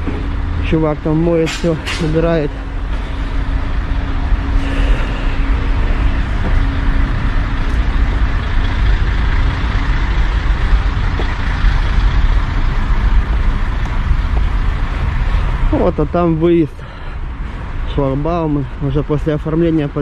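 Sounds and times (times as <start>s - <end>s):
lorry engines idling: 0.0s - 20.0s
steady hum: 0.0s - 20.0s.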